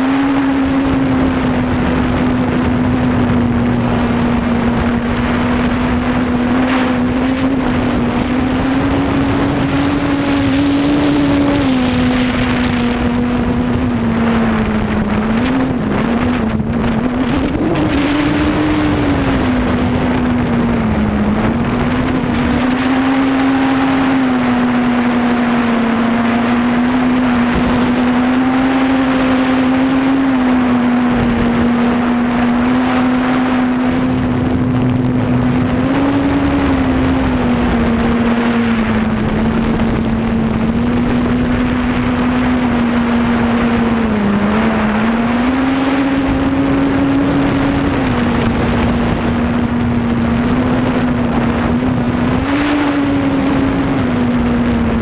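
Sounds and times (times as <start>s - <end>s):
quadcopter propellers humming: 0.0s - 55.0s.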